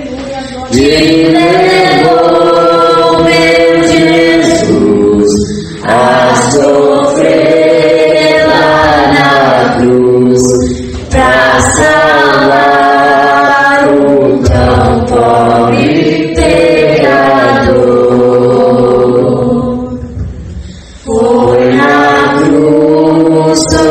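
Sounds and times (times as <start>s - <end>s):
congregation singing a hymn: 0.0s - 23.9s.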